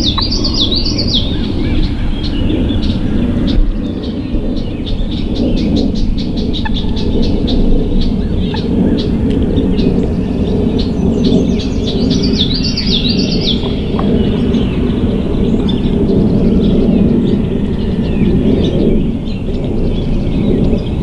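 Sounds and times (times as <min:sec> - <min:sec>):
low rumble: 0:00.0 - 0:21.0
songbird singing: 0:00.0 - 0:21.0.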